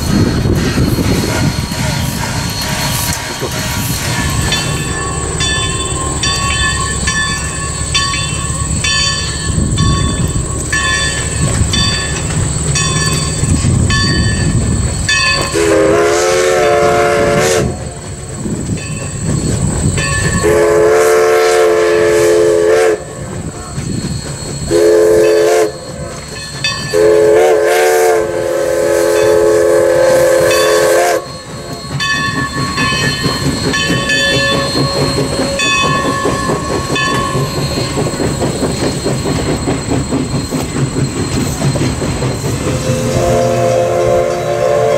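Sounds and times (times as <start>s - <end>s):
locomotive bell ringing: 0.0s - 44.9s
rumble of locomotive and coaches: 0.0s - 44.9s
steam locomotive chime whistle: 0.0s - 44.9s.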